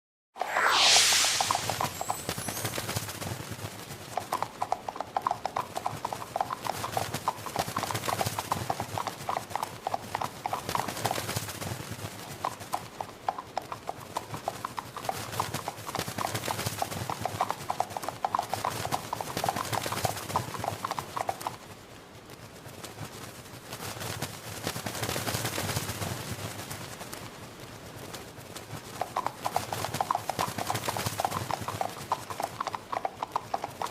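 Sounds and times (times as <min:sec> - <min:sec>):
horse hooves clip-clopping: 0:02.4 - 0:33.9.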